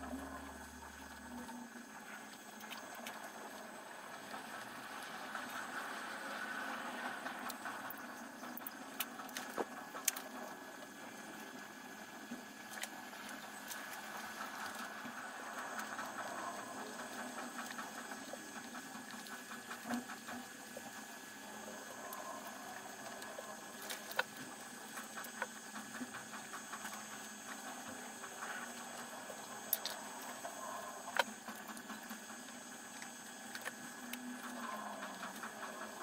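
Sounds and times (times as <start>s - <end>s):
faint high hum: 0.0s - 36.0s.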